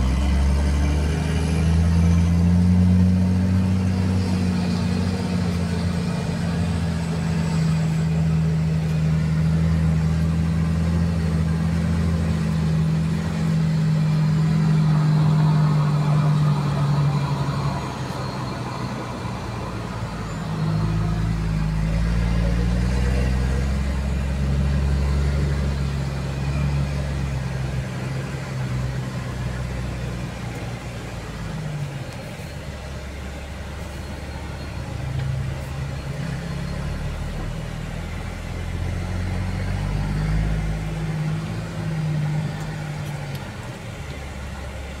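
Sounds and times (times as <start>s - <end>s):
heavy vehicle engine from cab: 0.0s - 45.0s.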